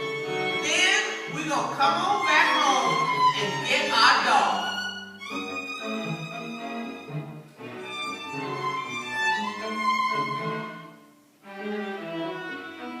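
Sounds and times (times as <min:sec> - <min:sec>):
string quartet bowed notes: 0:00.0 - 0:13.0.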